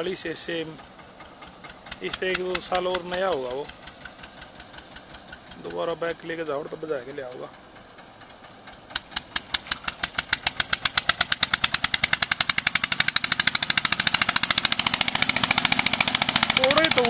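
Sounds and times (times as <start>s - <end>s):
tractor diesel engine pulling hard: 0.0s - 17.0s.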